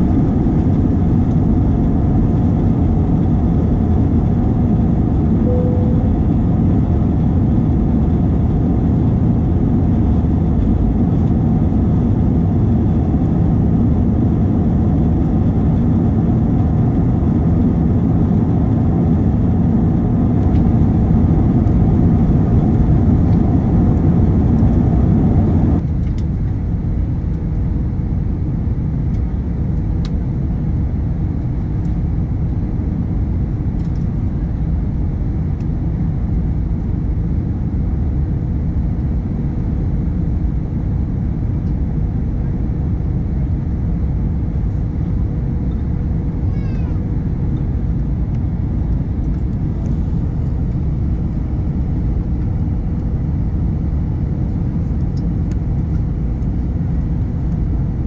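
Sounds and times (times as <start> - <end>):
jet cabin engine rumble: 0.0 - 58.0.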